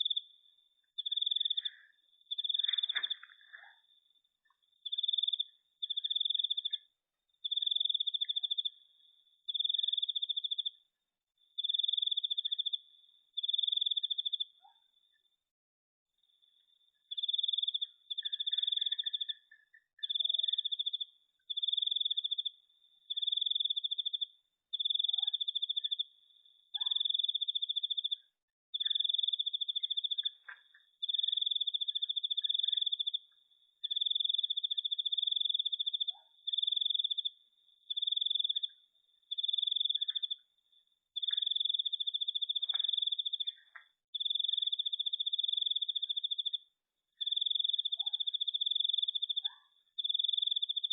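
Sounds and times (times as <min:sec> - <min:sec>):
night animals chirping: 0:00.0 - 0:04.0, 0:04.6 - 0:08.9, 0:09.5 - 0:10.8, 0:16.9 - 0:40.6, 0:41.2 - 0:50.9
cricket trilling: 0:00.0 - 0:04.2, 0:04.8 - 0:08.8, 0:09.5 - 0:10.8, 0:11.6 - 0:15.3, 0:16.2 - 0:26.2, 0:26.8 - 0:50.9.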